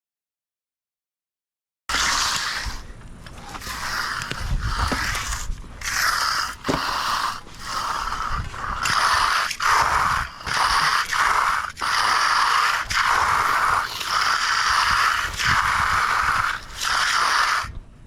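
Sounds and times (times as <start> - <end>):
hand tool scraping wet concrete: 1.9 - 17.8.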